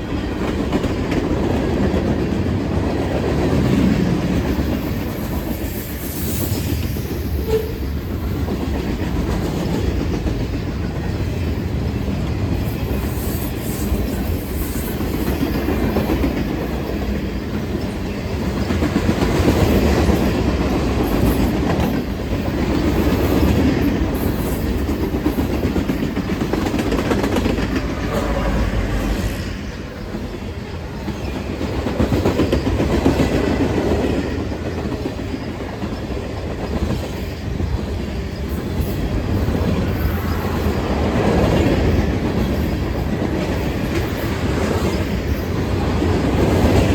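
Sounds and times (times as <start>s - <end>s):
train passing on rails: 0.0s - 46.9s.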